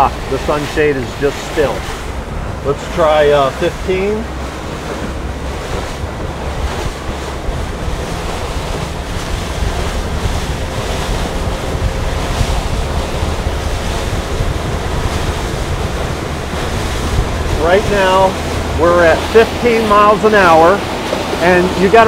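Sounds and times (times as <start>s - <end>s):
outboard engine running: 0.0s - 22.0s
water rushing past hull: 0.0s - 22.0s
wind buffeting microphone: 0.0s - 22.0s.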